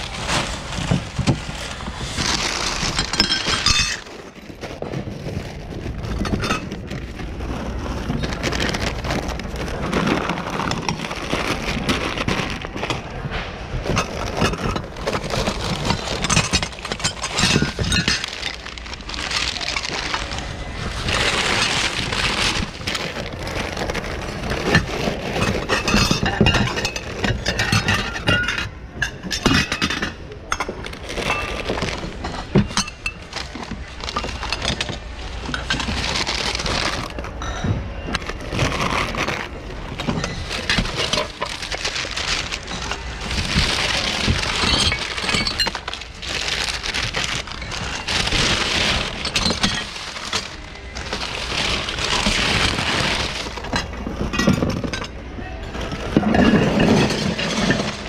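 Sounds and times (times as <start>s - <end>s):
glass and hard goods clinking: 0.0s - 58.0s.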